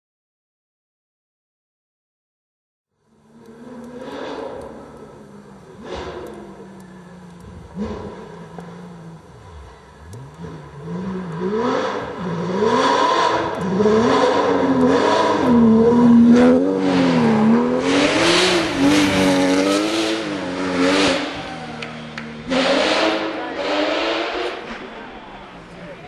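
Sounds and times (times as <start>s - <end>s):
rally car engine revving hard: 3.3s - 25.2s.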